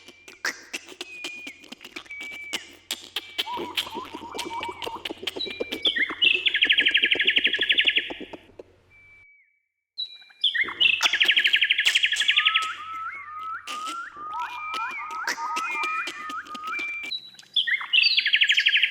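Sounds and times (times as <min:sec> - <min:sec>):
songbird trill: 0:00.0 - 0:09.2, 0:10.0 - 0:18.9
quick upslurred whistles: 0:00.0 - 0:09.4, 0:10.6 - 0:18.9.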